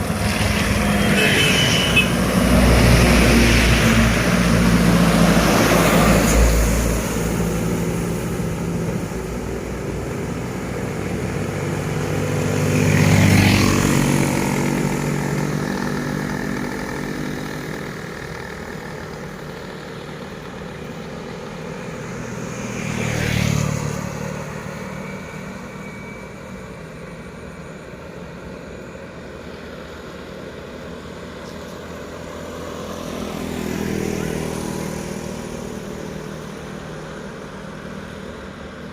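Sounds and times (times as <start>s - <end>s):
diesel trucks passing: 0.0s - 38.9s.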